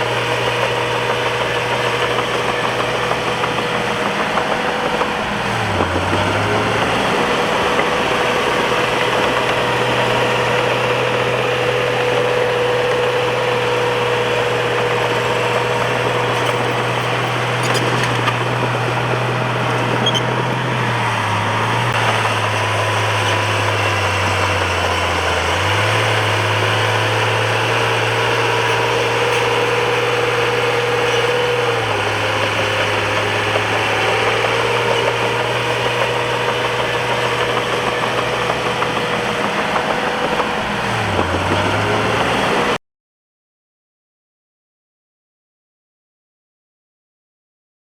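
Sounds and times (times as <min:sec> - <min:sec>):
bulldozer diesel engine running: 0:00.0 - 0:42.8.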